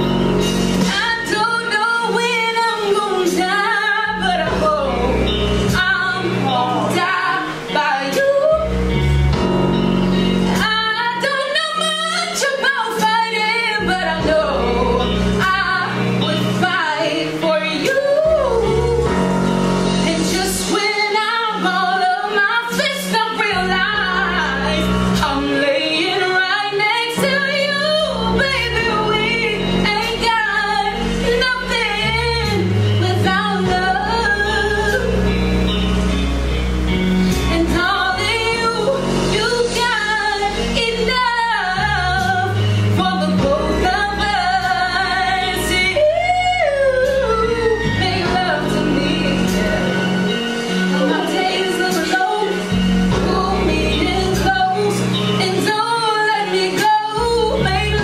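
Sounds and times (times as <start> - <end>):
instrumental accompaniment with bass: 0.0 - 58.0
woman singing soul ballad: 0.0 - 58.0.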